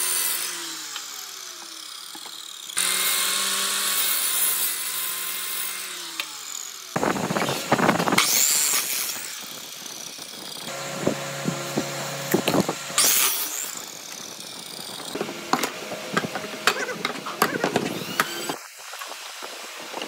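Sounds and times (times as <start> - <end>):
miter saw cutting wood: 0.0 - 20.0.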